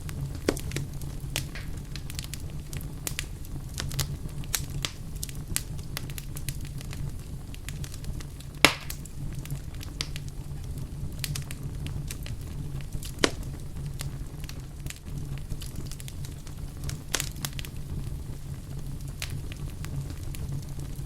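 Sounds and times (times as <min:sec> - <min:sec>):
loud fire pops: 0:00.0 - 0:21.0
steady low rumble: 0:00.0 - 0:21.0
wood fire crackling: 0:00.0 - 0:21.0.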